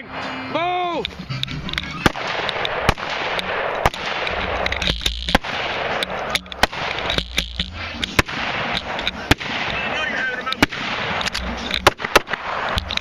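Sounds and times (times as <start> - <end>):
steady background noise: 0.0 - 13.0
rifle gunshots: 2.0 - 13.0.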